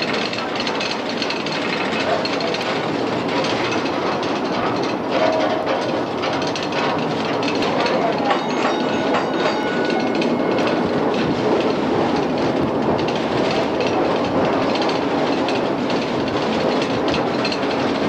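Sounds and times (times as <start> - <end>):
streetcar wheels clattering on rails: 0.0 - 18.0.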